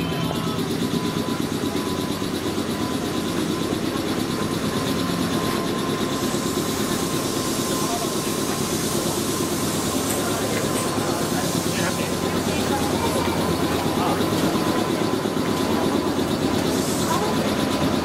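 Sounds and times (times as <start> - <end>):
crowd chatter: 0.0 - 18.0
electric train humming: 0.0 - 18.0
thin high tone: 0.0 - 18.0.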